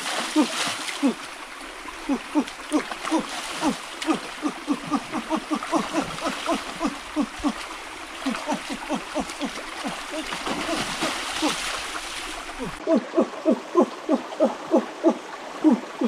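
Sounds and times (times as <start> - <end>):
shallow stream trickling: 0.0 - 16.0.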